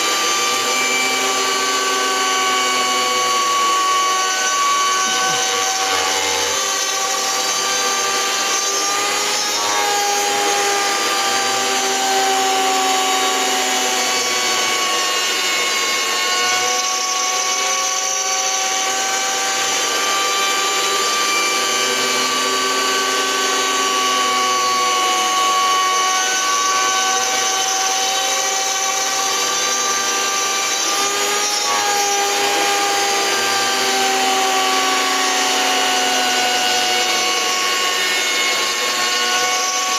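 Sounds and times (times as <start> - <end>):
cutter hissing through wood: 0.0 - 39.9
rotary tool spindle whine: 0.0 - 39.9.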